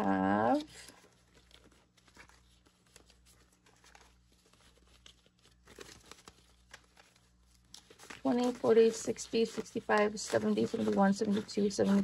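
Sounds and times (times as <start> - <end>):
paper bills rustling: 0.1 - 12.0.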